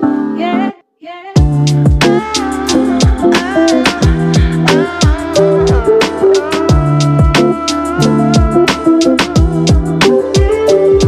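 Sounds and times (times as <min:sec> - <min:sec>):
slow sung song: 0:00.0 - 0:11.0
music with heavy beat and deep bass: 0:01.4 - 0:11.0.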